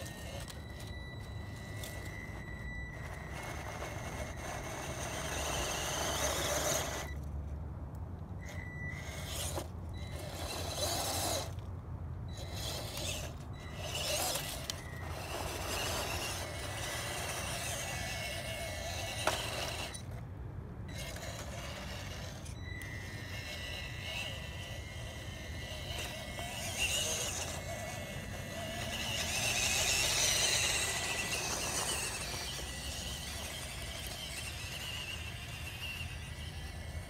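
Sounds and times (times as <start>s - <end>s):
electric motor and gearbox whirring: 0.0s - 37.0s.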